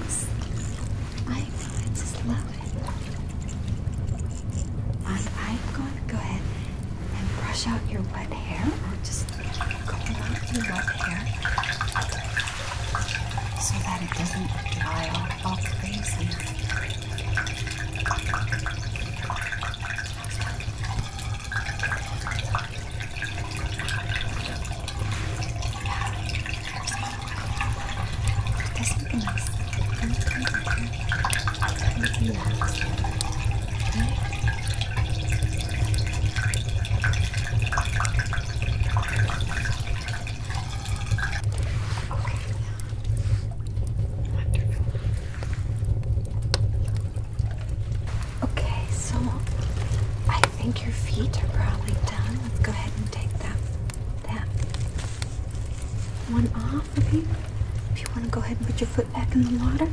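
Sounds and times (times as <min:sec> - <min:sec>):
bath water dripping: 0:00.0 - 0:59.9
low rumble: 0:00.0 - 0:59.9.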